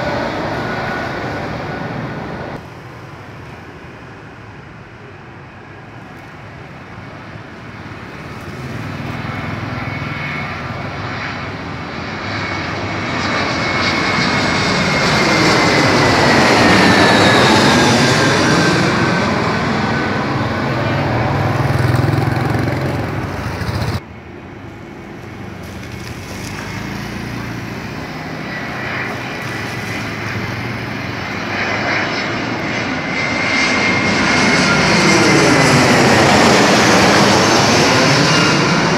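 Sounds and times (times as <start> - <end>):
jet airliner passing overhead: 0.0 - 38.9.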